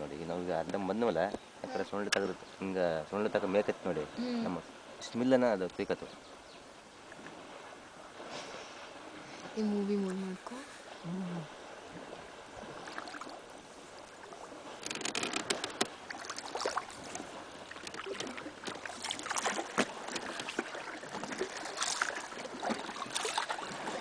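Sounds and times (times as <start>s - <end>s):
water splashing against a boat: 0.0s - 24.0s.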